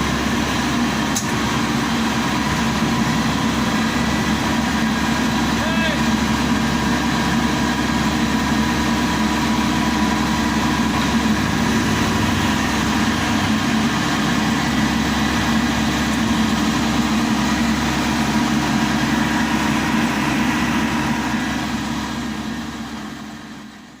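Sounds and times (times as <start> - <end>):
combine harvester engine running: 0.0 - 24.0
steady mechanical whine: 0.0 - 24.0.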